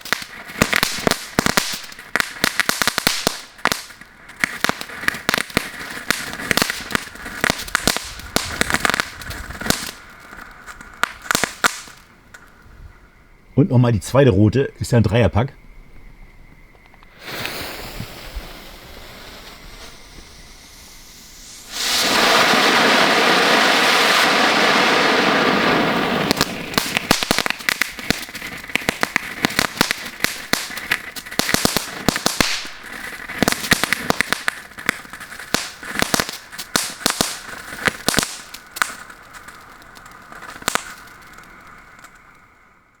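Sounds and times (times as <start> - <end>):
firework fountain hissing: 0.0 - 12.5, 17.0 - 43.0
firework crackling pops: 0.0 - 12.6, 16.5 - 43.0.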